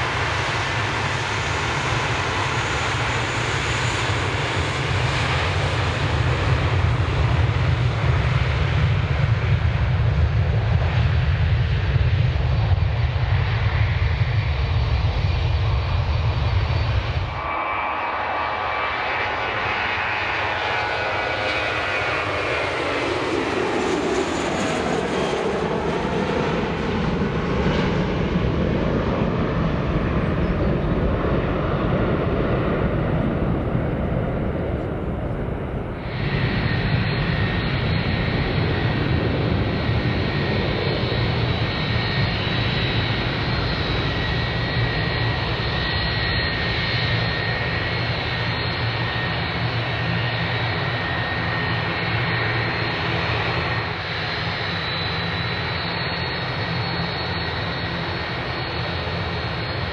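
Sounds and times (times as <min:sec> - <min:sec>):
deep jet rumble: 0:00.0 - 0:59.9
jet engines whining: 0:00.0 - 0:59.9.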